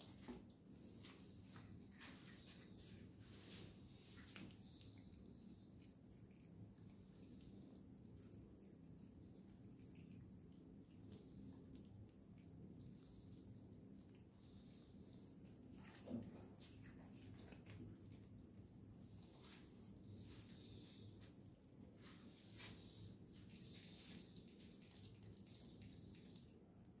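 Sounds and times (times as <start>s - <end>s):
high-pitched insect trill: 0.0s - 27.0s
low background hum: 0.0s - 27.0s.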